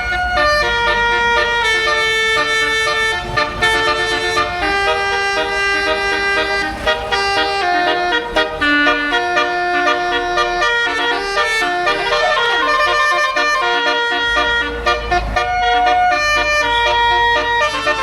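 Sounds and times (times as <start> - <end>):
multi-tone air horn playing tune: 0.0 - 18.0.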